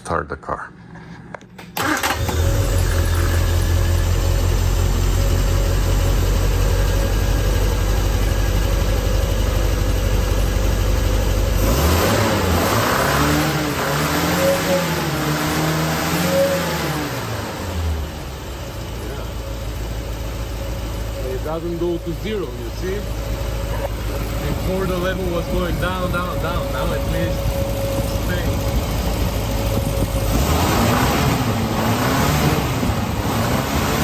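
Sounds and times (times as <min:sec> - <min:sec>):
car engine idling and revving: 0:01.8 - 0:34.0.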